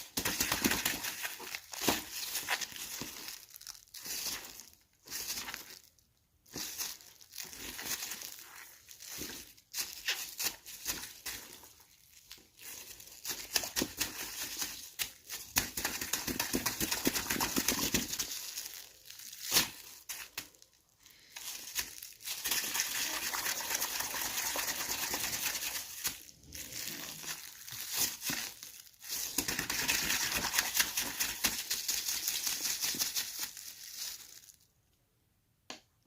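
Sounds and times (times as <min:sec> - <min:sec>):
plastic bag crinkling: 0:00.0 - 0:34.7.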